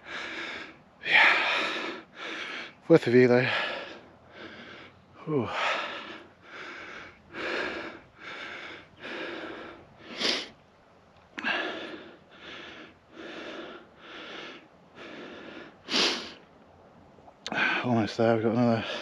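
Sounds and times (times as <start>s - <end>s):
man breathing hard: 0.0s - 10.6s, 11.4s - 16.5s, 17.5s - 17.9s, 18.8s - 19.0s.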